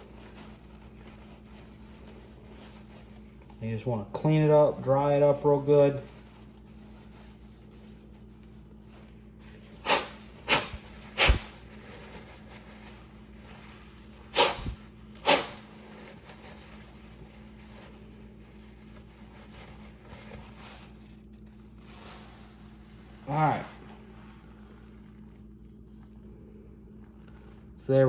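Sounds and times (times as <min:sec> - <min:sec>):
towel wiping swishes: 0:00.0 - 0:03.6, 0:04.5 - 0:25.4
faint steady hum: 0:00.0 - 0:28.0.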